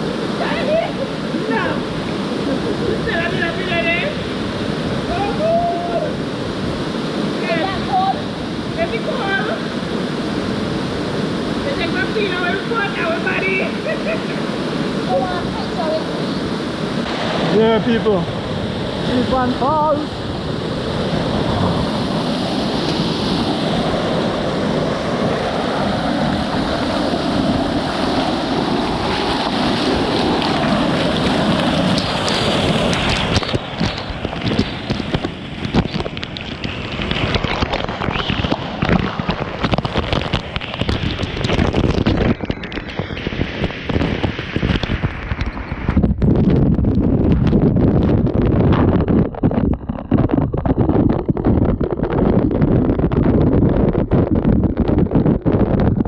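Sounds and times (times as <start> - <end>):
waterfall rushing: 0.0 - 45.9
wind buffeting microphone: 0.0 - 56.0.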